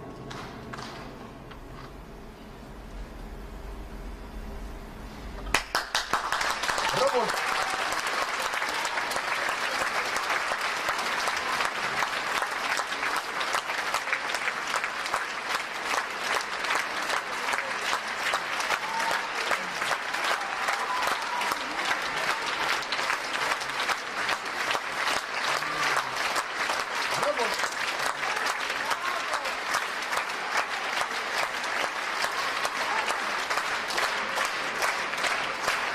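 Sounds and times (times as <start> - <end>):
audience applauding: 5.4 - 35.9.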